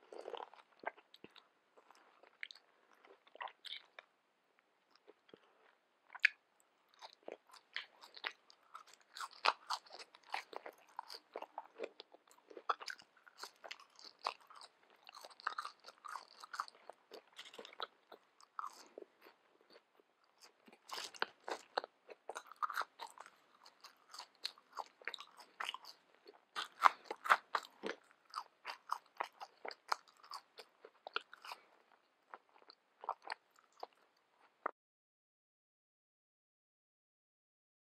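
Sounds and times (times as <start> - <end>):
chewing crunchy fries: 0.0 - 4.1, 4.9 - 34.7.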